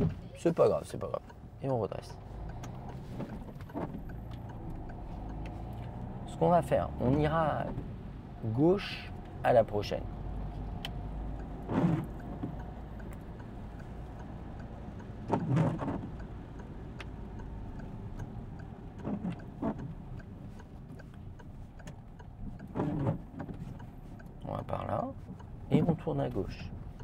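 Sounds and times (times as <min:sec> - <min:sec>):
car engine and road noise: 0:00.0 - 0:27.0
turn indicator ticking: 0:00.0 - 0:27.0.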